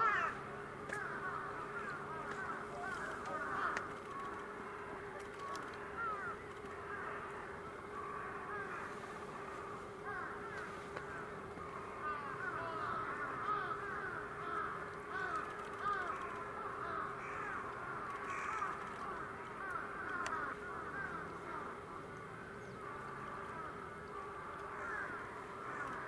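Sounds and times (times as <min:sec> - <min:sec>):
flock of birds calling: 0:00.0 - 0:26.0
steady low hum: 0:00.0 - 0:26.0.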